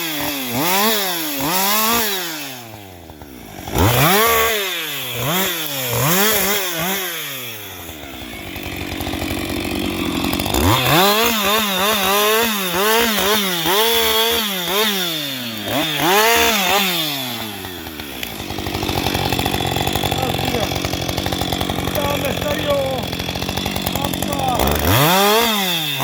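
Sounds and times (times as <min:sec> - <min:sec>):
chainsaw revving: 0:00.0 - 0:26.0.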